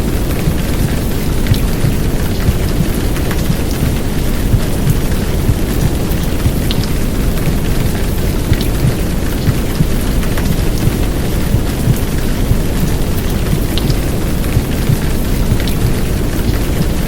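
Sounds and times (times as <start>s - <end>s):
deep rumble: 0.0s - 16.6s
heavy downpour of rain: 0.0s - 17.0s.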